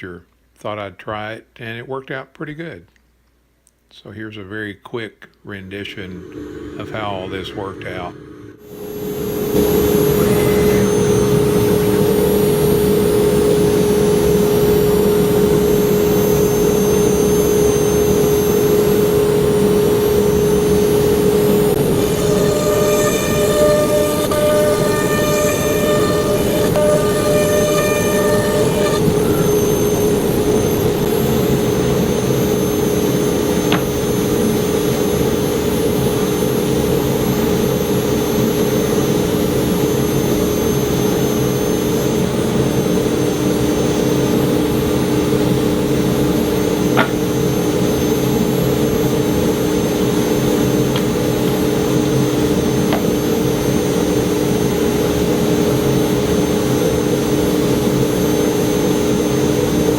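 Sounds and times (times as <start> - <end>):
cnc router cutting wood: 6.0 - 59.9.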